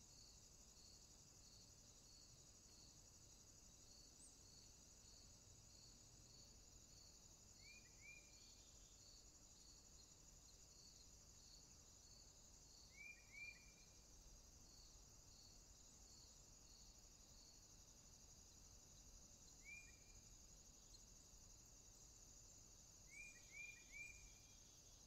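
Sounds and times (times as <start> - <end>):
cricket chirps: 0.0 - 25.0
insects trilling: 1.8 - 25.0.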